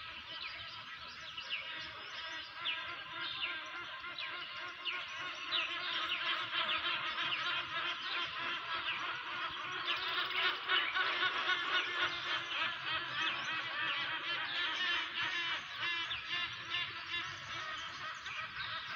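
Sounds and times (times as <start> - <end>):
dawn chorus of birds: 0.0 - 18.9.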